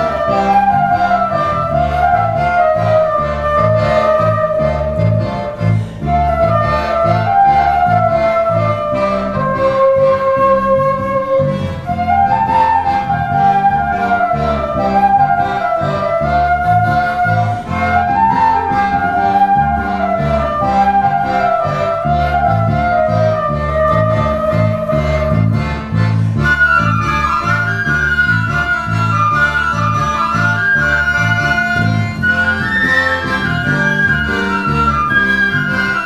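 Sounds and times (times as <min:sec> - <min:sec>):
accordion: 0:00.0 - 0:36.0
flute melody: 0:00.0 - 0:36.0
pulsing electric bass line: 0:00.0 - 0:36.0.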